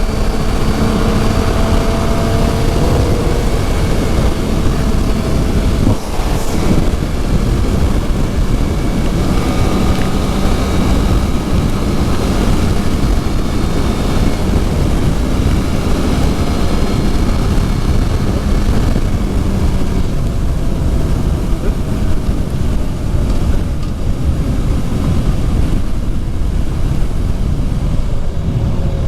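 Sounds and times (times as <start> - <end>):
motorcycle engine running: 0.0 - 29.0
wind rushing over microphone: 0.0 - 29.0.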